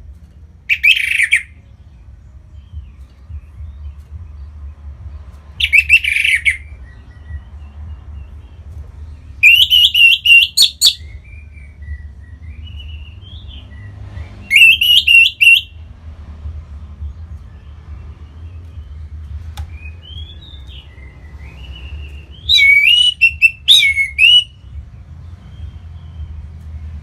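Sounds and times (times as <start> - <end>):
thrush singing: 0.6 - 16.0, 16.6 - 27.0.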